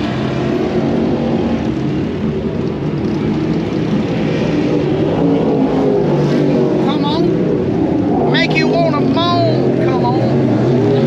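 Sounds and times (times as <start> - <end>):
engines droning: 0.0 - 11.0.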